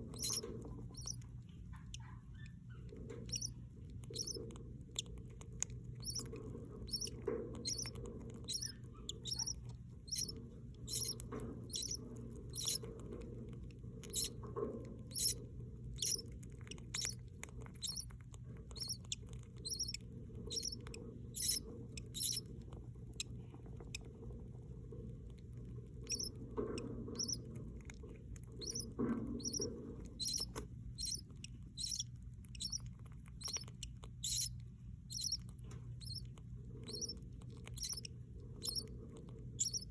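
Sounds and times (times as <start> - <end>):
budgie chicks peeping: 0.0 - 24.5, 25.2 - 39.9.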